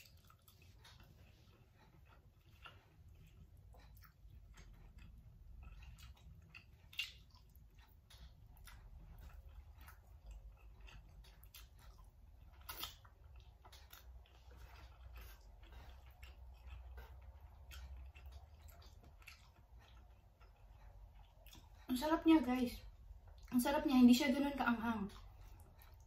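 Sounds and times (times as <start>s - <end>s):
person chewing noodles: 0.0s - 23.6s, 24.6s - 26.0s.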